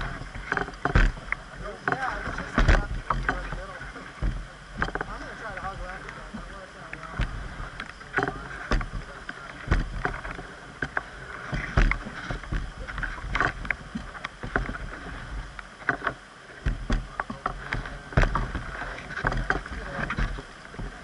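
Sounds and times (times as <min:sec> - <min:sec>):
knocks and splashes against boat: 0:00.0 - 0:21.0
water rushing around a hull: 0:00.0 - 0:21.0.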